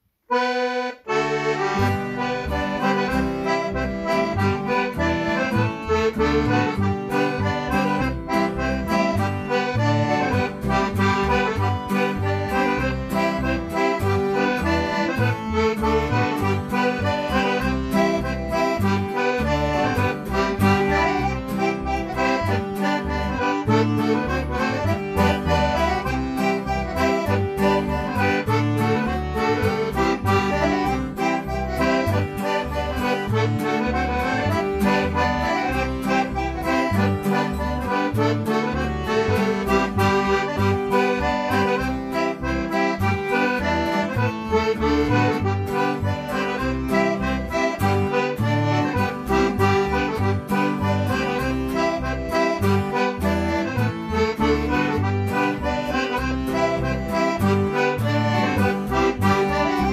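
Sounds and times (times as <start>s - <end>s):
piano accordion dance tune: 0.0s - 59.9s
acoustic guitar: 0.4s - 59.9s
electric bass: 1.1s - 59.9s.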